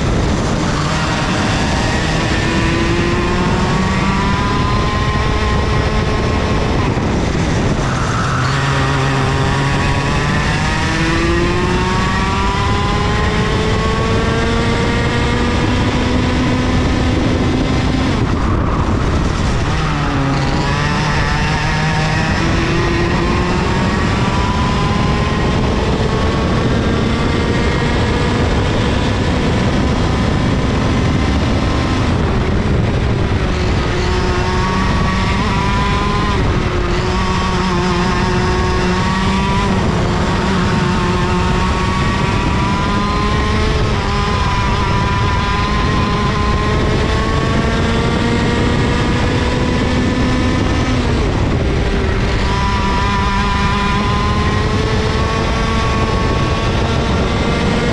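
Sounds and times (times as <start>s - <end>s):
kart engine revving: 0.0s - 57.9s.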